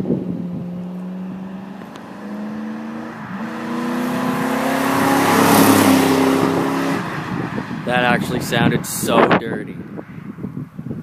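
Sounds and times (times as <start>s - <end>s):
car engine accelerating: 0.0s - 10.4s.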